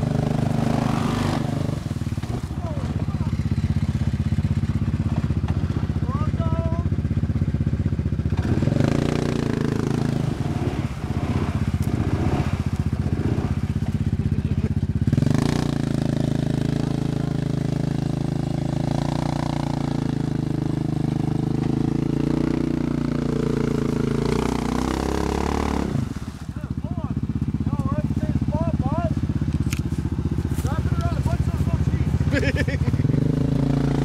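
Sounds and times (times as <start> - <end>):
atv engine revving in mud: 0.0 - 34.0.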